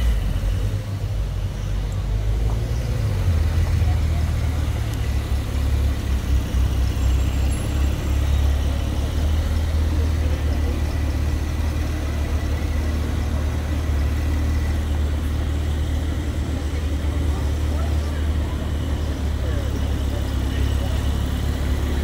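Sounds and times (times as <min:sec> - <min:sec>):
car engine idling at low revs: 0:00.0 - 0:22.0.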